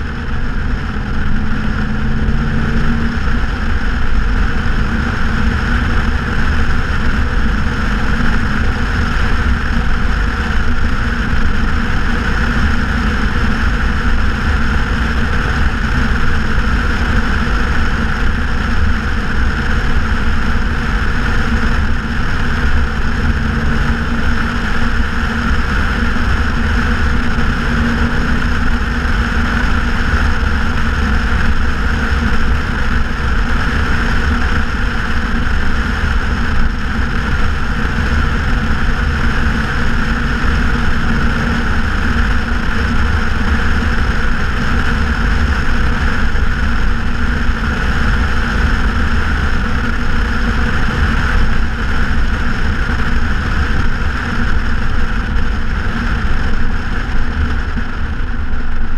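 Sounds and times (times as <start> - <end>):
deep car exhaust drone: 0.0 - 58.9.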